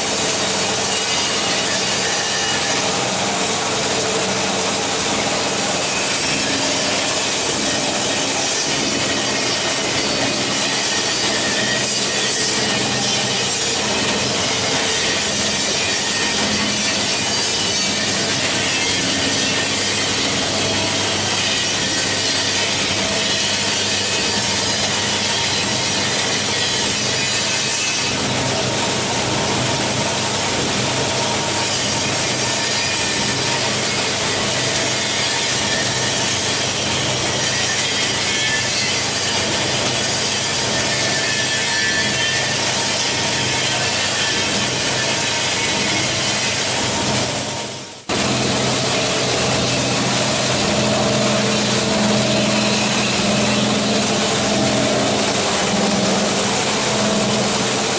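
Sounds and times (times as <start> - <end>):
machinery running: 0.0 - 57.9.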